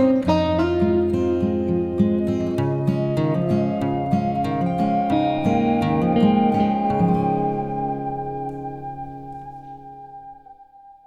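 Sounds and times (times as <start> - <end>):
plucked acoustic guitar: 0.0 - 10.6
sustained tones: 0.0 - 11.0.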